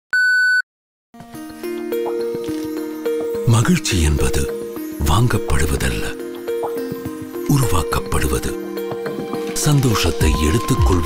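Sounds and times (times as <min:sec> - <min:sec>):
gentle instrumental music: 0:01.2 - 0:11.0.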